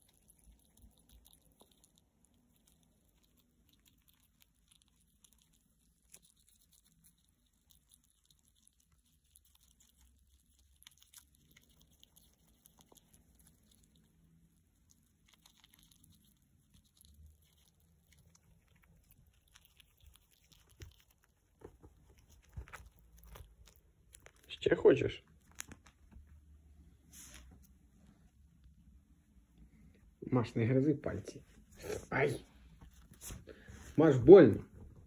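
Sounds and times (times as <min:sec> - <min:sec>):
squirrel chewing: 0:00.0 - 0:30.0.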